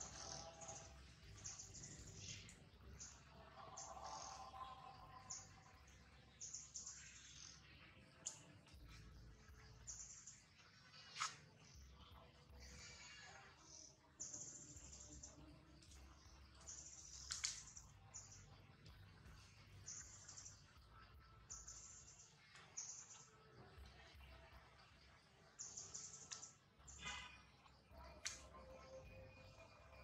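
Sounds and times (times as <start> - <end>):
faint high-pitched chirps: 0.0 - 30.0.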